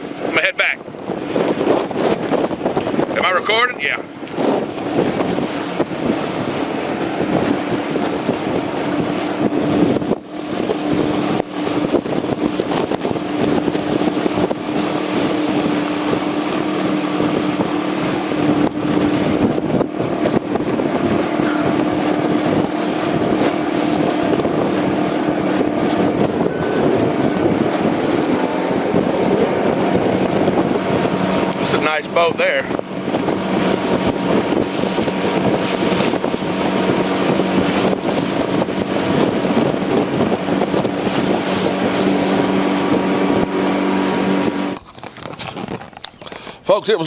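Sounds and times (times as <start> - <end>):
wind buffeting microphone: 0.0 - 46.3
boat motor running: 0.0 - 46.6.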